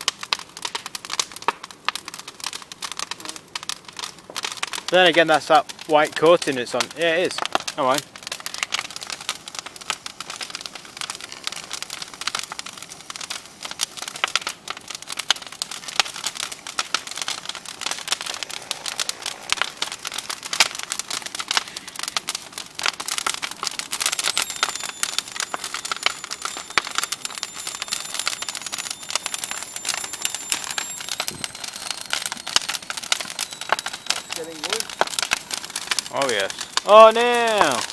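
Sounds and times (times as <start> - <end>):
bonfire crackling: 0.0 - 37.9.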